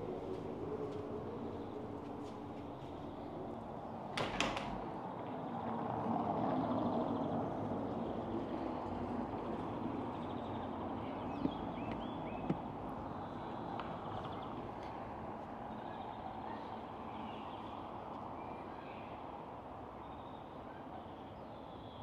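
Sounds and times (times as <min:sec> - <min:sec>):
background ambience: 0:00.0 - 0:22.0.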